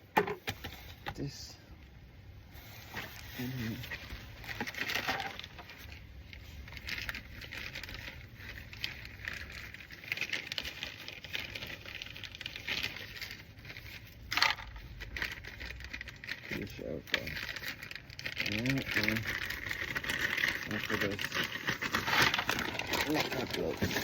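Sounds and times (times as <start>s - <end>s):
rustling of things handled: 2.4s - 24.0s.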